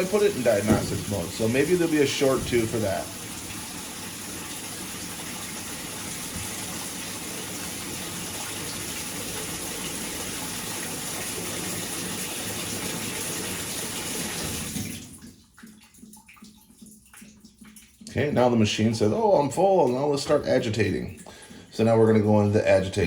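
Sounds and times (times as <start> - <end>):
washing machine filling with water: 0.0 - 23.0.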